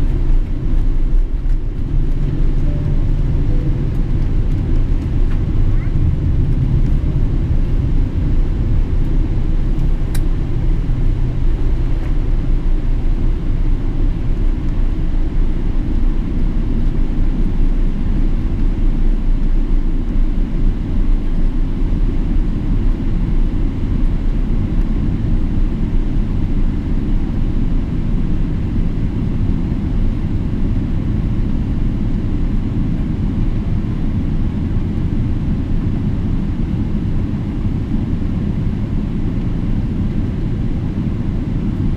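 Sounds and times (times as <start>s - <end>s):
jet engines low rumble: 0.0s - 41.9s.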